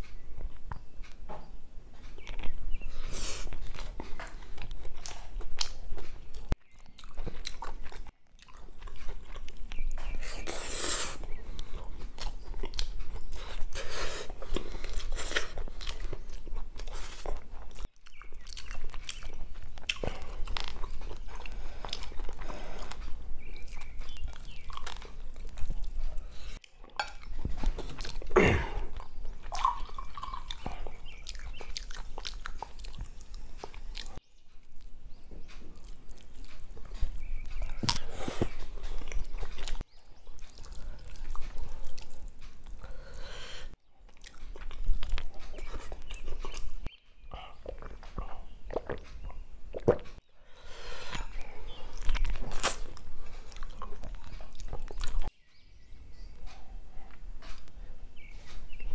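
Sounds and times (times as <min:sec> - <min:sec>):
close chewing and mouth sounds: 0:00.0 - 0:58.9.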